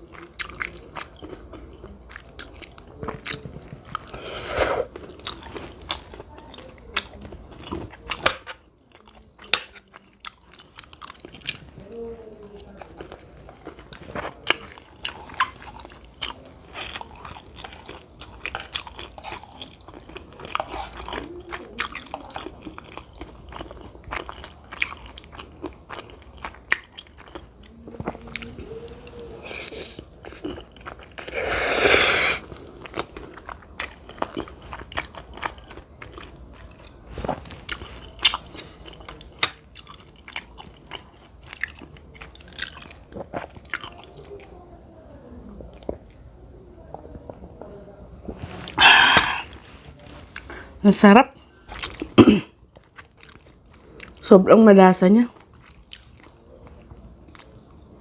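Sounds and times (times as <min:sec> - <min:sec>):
person chewing food: 0:00.0 - 0:44.4, 0:48.3 - 0:50.8, 0:51.5 - 0:54.2, 0:55.4 - 0:58.0.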